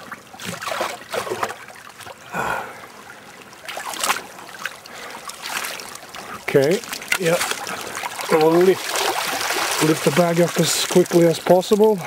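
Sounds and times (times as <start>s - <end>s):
stream water trickling: 0.0s - 12.0s
water splashing: 0.0s - 12.0s.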